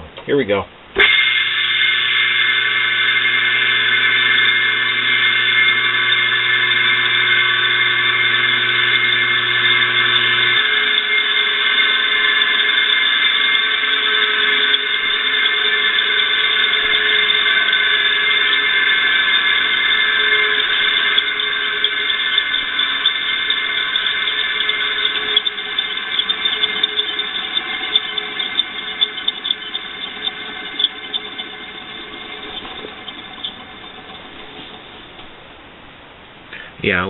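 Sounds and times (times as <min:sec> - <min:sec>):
low electrical hum: 0:00.0 - 0:37.0
electric motor bearing squealing: 0:01.0 - 0:35.4.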